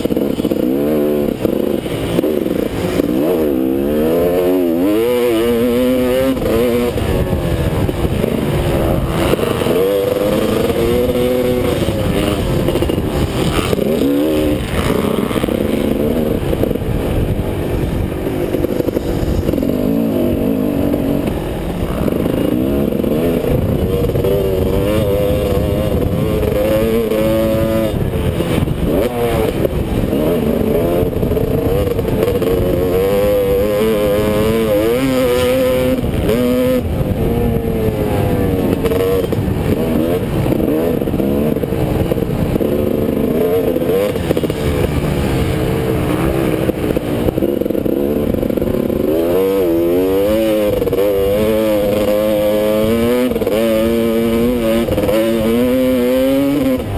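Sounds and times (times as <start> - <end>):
motorbike engine revving: 0.0 - 56.9
rough rushing noise: 0.0 - 56.9.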